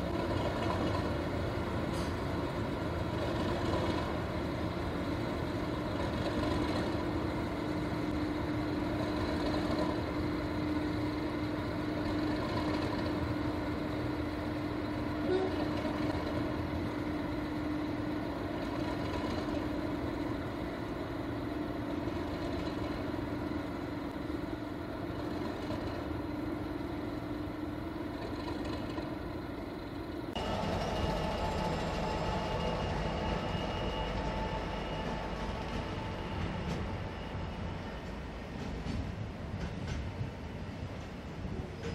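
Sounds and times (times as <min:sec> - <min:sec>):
diesel locomotive engine drone: 0:00.0 - 0:41.9.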